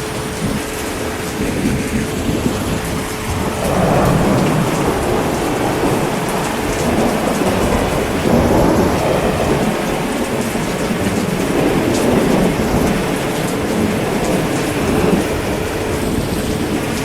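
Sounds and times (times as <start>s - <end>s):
heavy rain: 0.0s - 17.0s
thunder rumbling: 0.0s - 17.0s.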